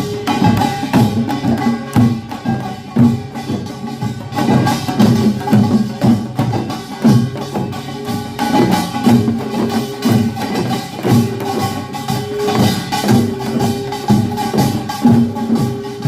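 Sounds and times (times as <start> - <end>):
drums beating: 0.0 - 16.0.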